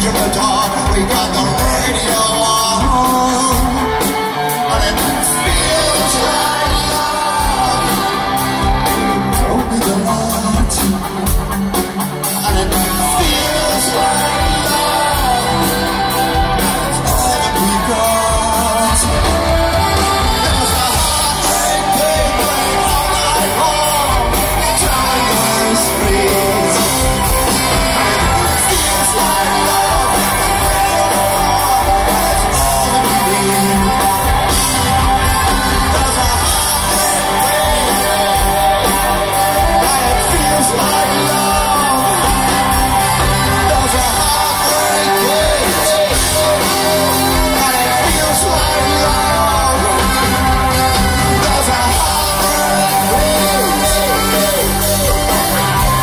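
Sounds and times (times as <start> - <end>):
crowd shouting along: 0.0 - 56.0
live rock band playing: 0.0 - 56.0
person singing: 0.0 - 56.0.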